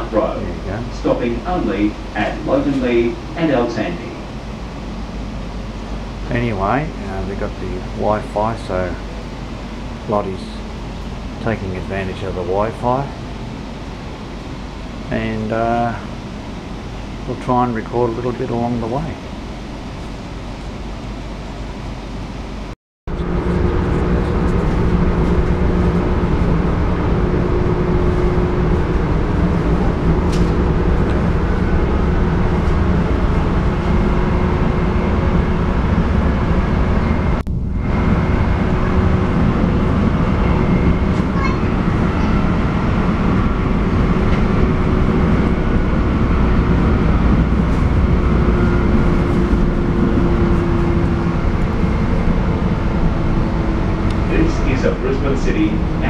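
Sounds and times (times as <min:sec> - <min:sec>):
faint steady whine: 0:00.0 - 0:56.0
train wheels rumbling on rails: 0:00.0 - 0:56.0.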